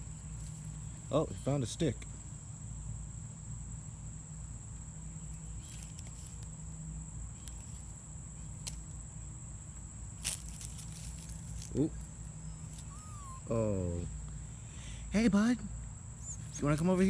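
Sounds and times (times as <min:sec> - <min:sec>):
crickets trilling: 0:00.0 - 0:17.0
low background hum: 0:00.0 - 0:17.0.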